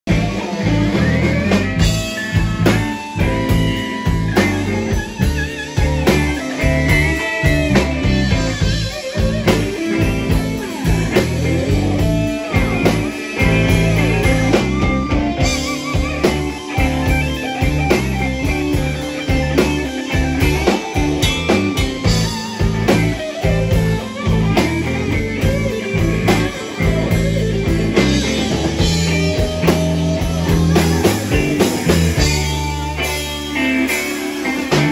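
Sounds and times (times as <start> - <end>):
bass guitar: 0.0 - 34.9
distorted electric guitars: 0.0 - 34.9
drum kit beat: 0.0 - 34.9.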